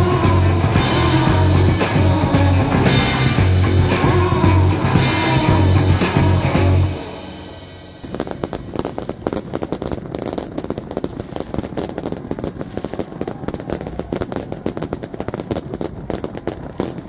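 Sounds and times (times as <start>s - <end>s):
fireworks and firecrackers crackling: 0.0s - 17.0s.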